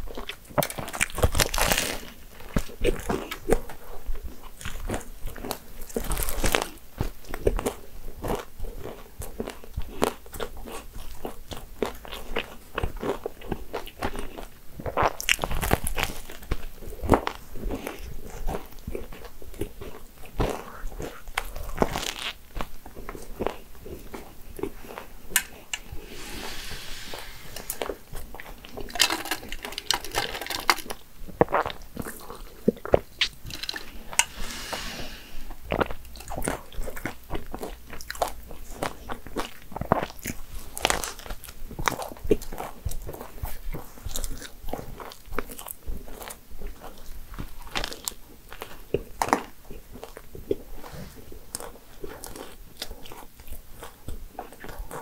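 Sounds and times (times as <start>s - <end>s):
pastry crunching with bites: 0.0s - 25.8s, 35.7s - 55.0s
chewing: 0.0s - 26.0s, 27.6s - 34.5s, 35.5s - 55.0s.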